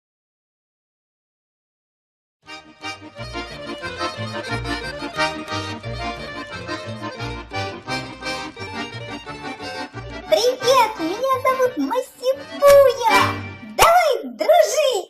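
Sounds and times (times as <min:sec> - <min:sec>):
cheerful instrumental music: 0:02.4 - 0:14.8.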